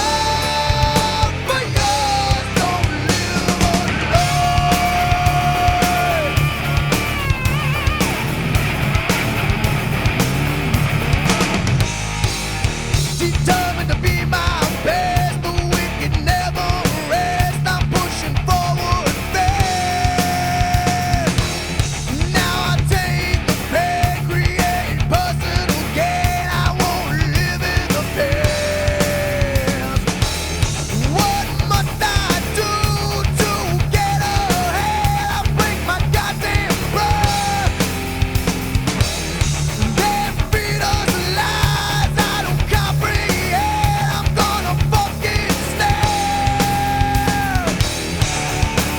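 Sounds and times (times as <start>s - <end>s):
metal band playing: 0.0s - 48.9s.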